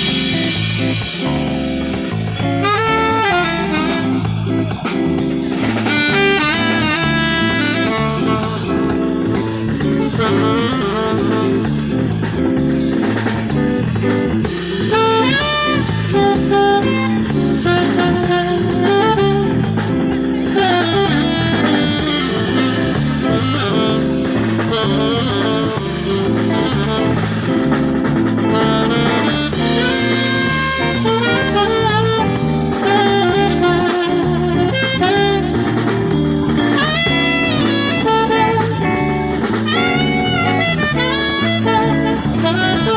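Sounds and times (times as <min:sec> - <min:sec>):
bass line: 0:00.0 - 0:42.9
drum kit: 0:00.0 - 0:42.9
horn melody: 0:00.0 - 0:42.9.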